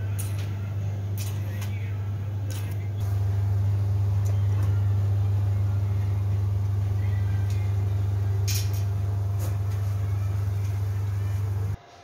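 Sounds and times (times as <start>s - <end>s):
vacuum pump humming: 0.0s - 11.8s.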